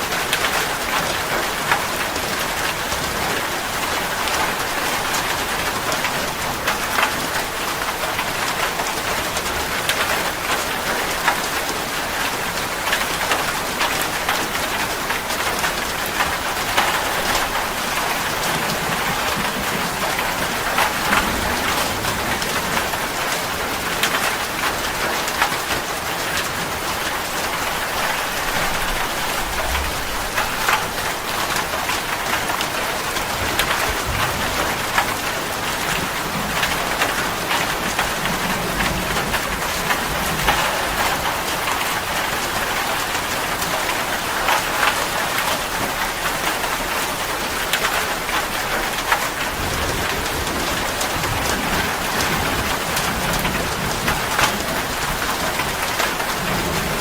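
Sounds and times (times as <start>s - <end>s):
steady dense rain: 0.0s - 57.0s.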